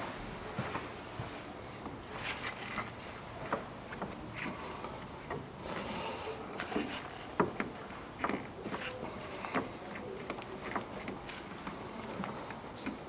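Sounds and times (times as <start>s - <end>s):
rubber hose rustling: 0.0s - 13.0s.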